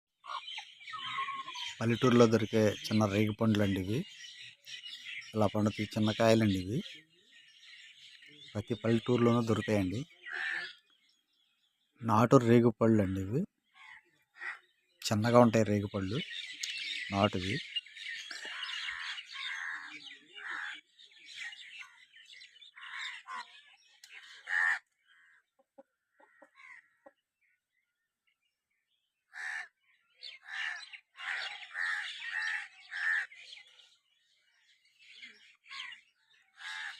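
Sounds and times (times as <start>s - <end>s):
birds calling: 0.1s - 36.9s.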